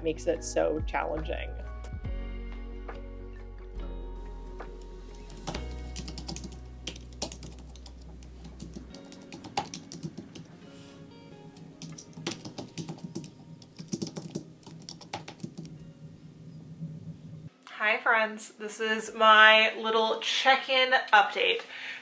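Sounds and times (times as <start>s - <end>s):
soft background music: 0.0s - 20.8s.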